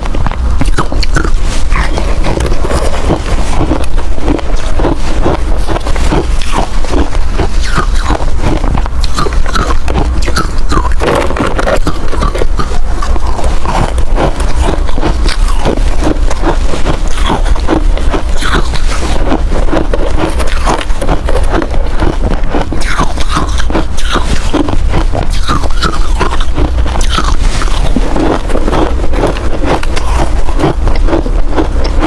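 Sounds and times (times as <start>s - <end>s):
crunching of crushed ice: 0.0s - 32.0s.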